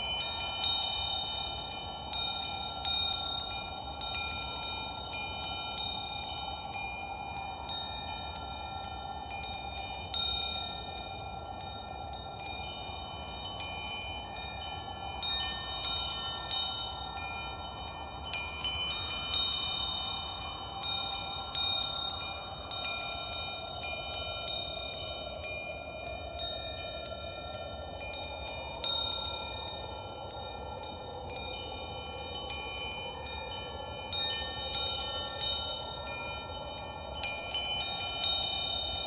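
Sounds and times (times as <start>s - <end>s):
wind chimes ringing: 0.0s - 39.0s.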